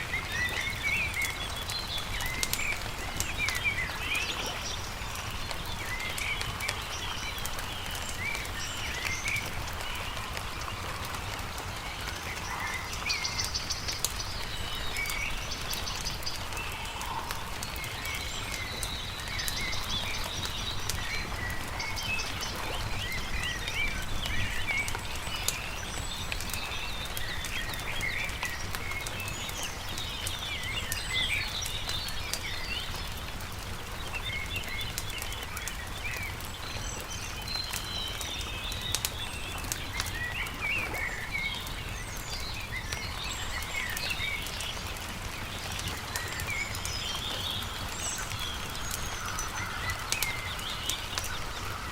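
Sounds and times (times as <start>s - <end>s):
campfire popping and crackling: 0.0s - 51.9s
small birds chirping and trilling: 0.0s - 51.9s.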